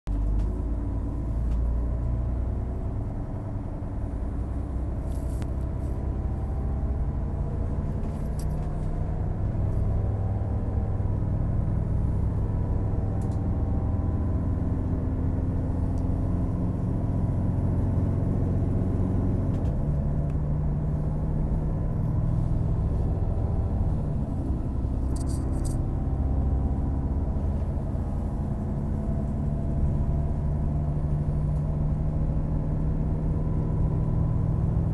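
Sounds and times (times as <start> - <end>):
train diesel engine drone: 0.1 - 34.9.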